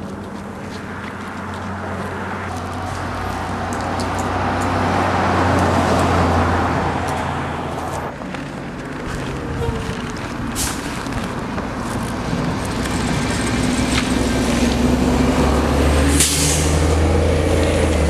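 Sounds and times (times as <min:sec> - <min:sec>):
motor vehicle passing by: 0:00.0 - 0:18.0.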